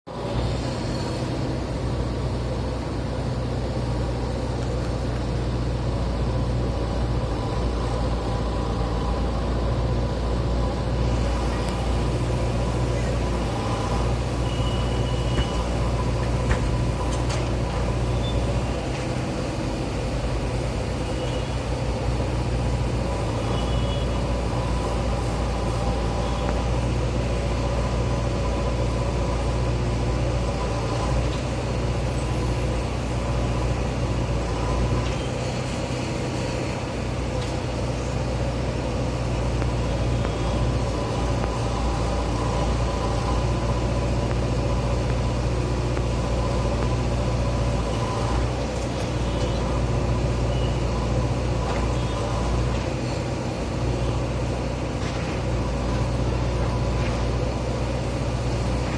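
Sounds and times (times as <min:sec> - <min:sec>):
diesel engine running: 0:00.1 - 0:58.9.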